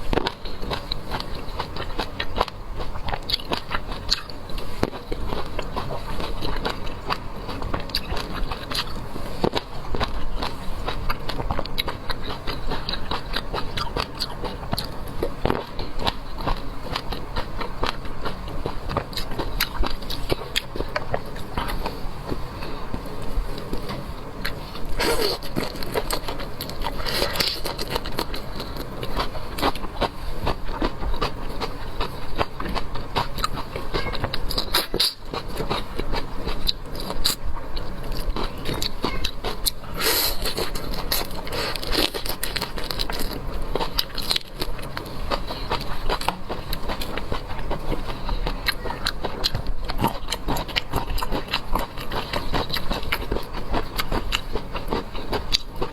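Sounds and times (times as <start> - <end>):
chewing crunchy shrimp: 0.0 - 55.9.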